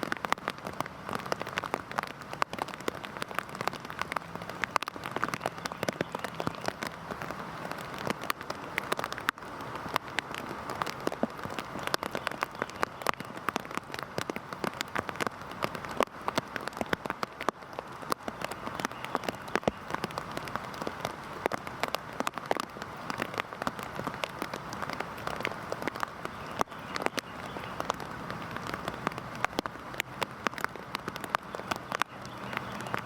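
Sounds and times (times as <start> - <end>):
heavy rain hiss: 0.0 - 33.0
raindrops ticking on hard surface: 0.0 - 33.0.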